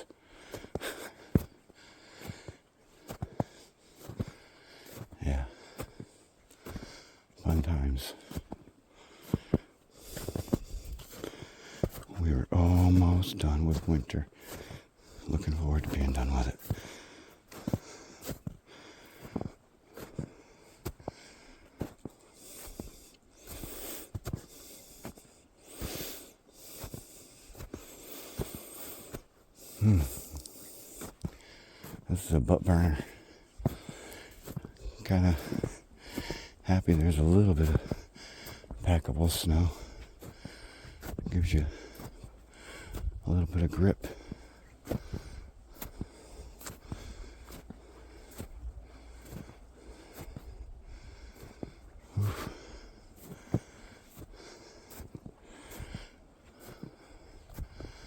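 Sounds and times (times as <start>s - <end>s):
heavy laboured breathing: 0.0s - 58.0s
footsteps crunching in snow: 0.4s - 58.0s.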